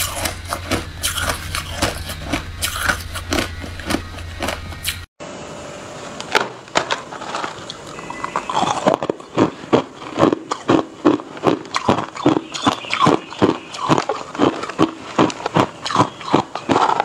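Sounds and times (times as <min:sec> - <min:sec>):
ice crunching between teeth: 0:00.0 - 0:05.1, 0:07.1 - 0:17.0.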